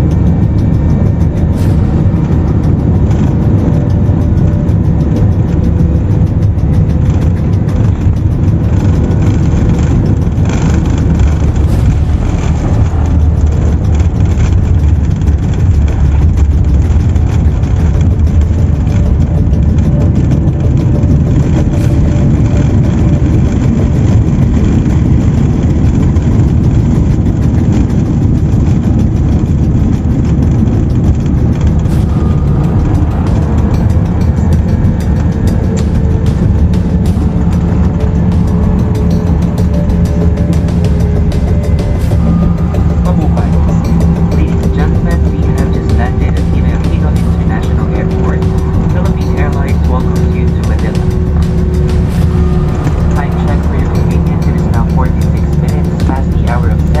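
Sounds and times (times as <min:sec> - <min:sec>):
jet engine rumble in cabin: 0:00.0 - 0:57.0.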